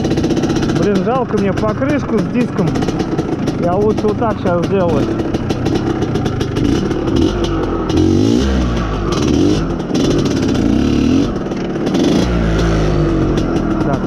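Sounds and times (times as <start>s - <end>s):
two-stroke motorcycle engine revving: 0.0s - 14.0s.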